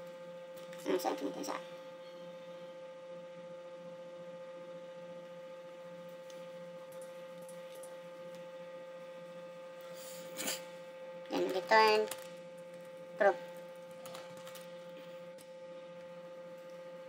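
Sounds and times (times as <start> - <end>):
electrical hum with high tone: 0.0 - 17.0.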